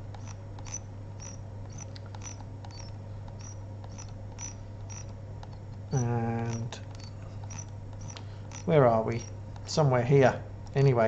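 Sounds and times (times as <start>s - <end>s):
low electrical hum: 0.0s - 11.0s
mouse scroll wheel ticking: 0.1s - 9.7s.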